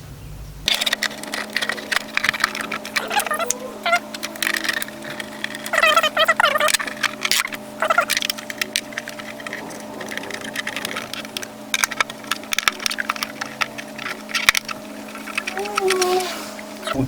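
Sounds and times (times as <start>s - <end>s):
plastic housing clicks and knocks: 0.7s - 16.1s.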